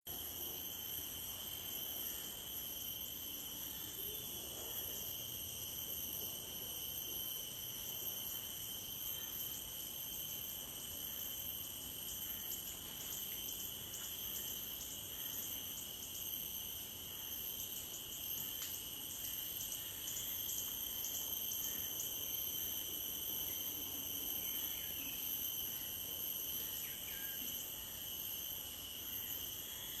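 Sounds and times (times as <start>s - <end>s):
insect chorus droning: 0.0s - 30.0s.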